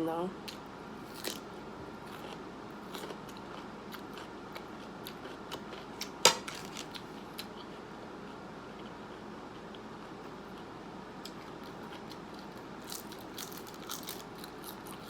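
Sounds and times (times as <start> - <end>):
person chewing food: 0.5 - 15.0.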